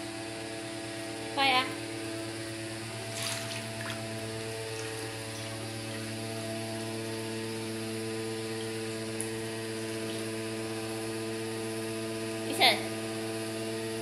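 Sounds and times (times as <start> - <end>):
pool pump motor humming: 0.0 - 14.0.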